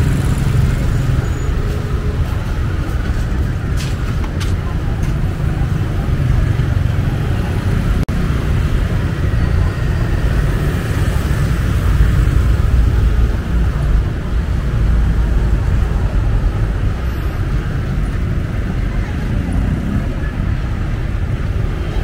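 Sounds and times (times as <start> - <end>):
motor traffic rumble: 0.0 - 22.0.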